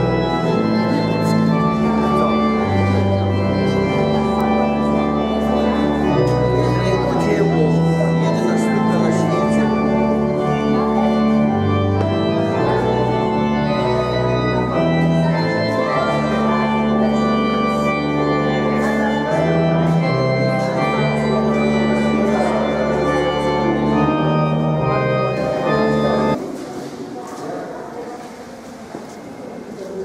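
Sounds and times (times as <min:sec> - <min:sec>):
church organ playing chords: 0:00.0 - 0:26.4.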